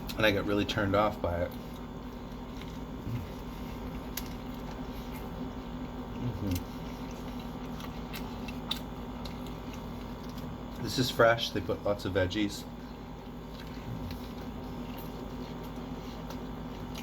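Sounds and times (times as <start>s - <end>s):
person chewing food: 0.0s - 11.0s, 12.6s - 17.0s
low room hum: 0.0s - 17.0s.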